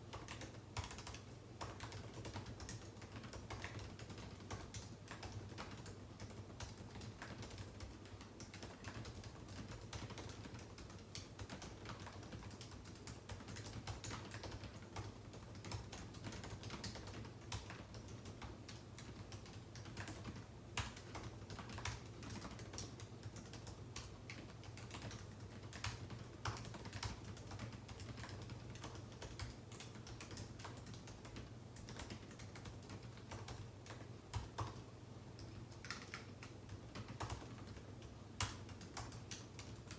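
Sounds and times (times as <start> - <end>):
low steady hum: 0.0 - 39.9
keyboard typing clicks: 0.1 - 39.9.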